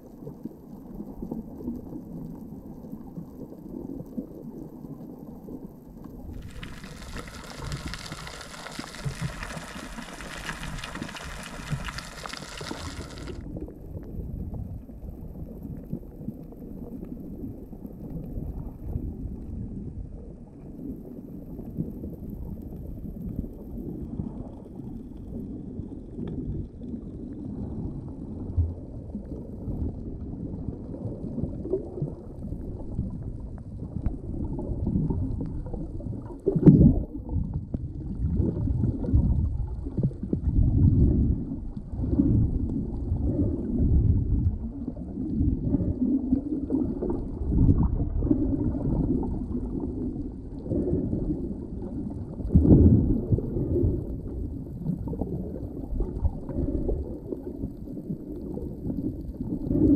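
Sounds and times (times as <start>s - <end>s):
underwater rumbling: 0.0s - 59.9s
water gurgles: 0.0s - 59.9s.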